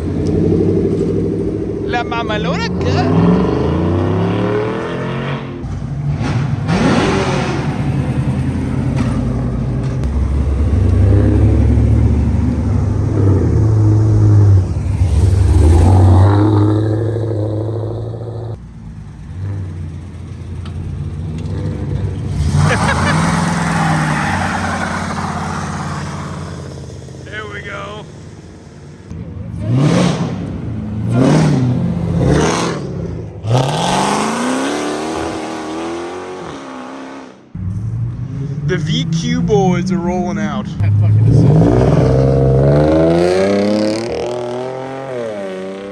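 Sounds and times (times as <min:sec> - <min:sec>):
car accelerating hard: 0:00.0 - 0:28.6, 0:29.5 - 0:45.9
car engine revving: 0:00.0 - 0:45.9.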